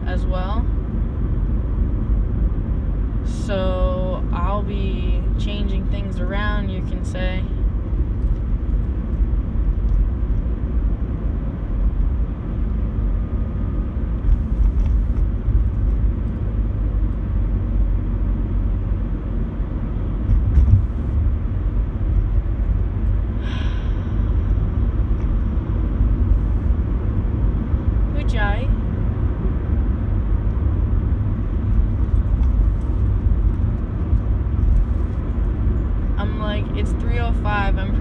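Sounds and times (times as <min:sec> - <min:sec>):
car cabin road rumble: 0:00.0 - 0:38.0.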